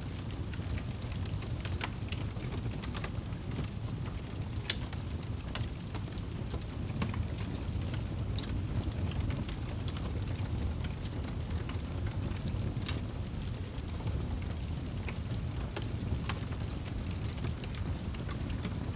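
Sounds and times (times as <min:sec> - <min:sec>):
fire crackling and popping: 0:00.1 - 0:18.9
rain rumbling: 0:00.2 - 0:18.9.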